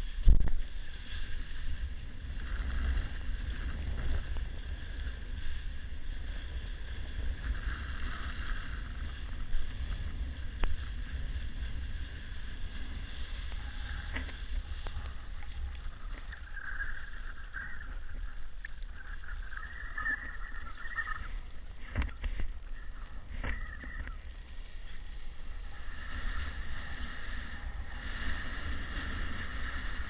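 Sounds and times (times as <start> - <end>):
surf rushing: 0.0 - 30.0
wind buffeting microphone: 0.0 - 30.0.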